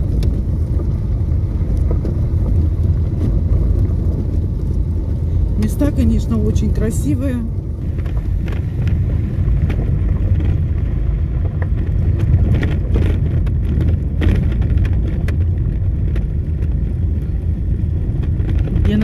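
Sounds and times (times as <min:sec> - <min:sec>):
engine and tyre rumble: 0:00.0 - 0:19.0
stones clicking under car: 0:00.0 - 0:19.0.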